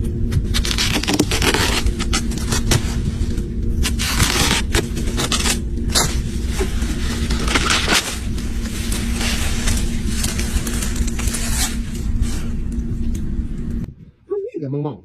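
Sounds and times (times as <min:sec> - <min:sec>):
steady low hum: 0:00.0 - 0:15.0
scraping and rustling: 0:00.4 - 0:13.3.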